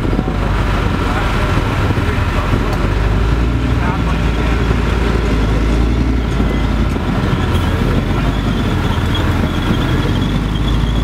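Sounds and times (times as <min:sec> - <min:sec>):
truck diesel engines rumbling: 0:00.0 - 0:11.0.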